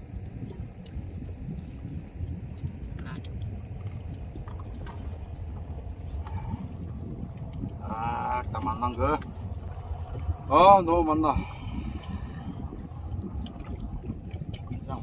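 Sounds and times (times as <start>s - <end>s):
boat engine rumbling: 0.0s - 15.0s
wind on microphone: 0.0s - 15.0s.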